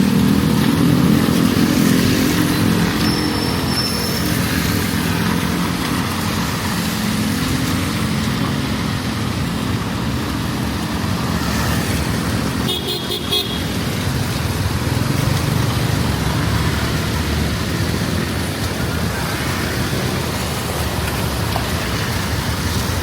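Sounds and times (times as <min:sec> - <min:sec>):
passing vehicle engines: 0:00.0 - 0:23.0
rain and wet road noise: 0:00.0 - 0:23.0.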